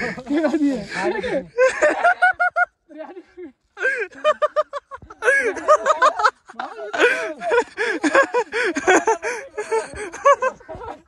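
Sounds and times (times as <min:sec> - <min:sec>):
young men laughing and shouting: 0:00.0 - 0:11.0.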